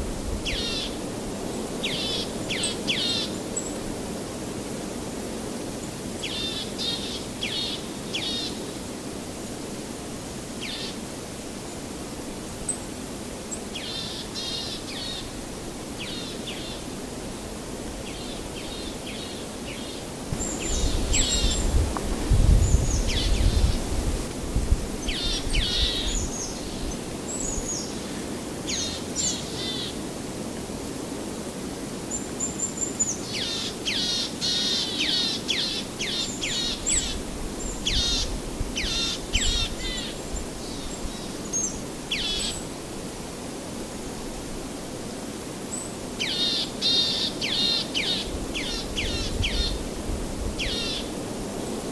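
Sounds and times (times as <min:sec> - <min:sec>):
background hiss: 0:00.0 - 0:51.9.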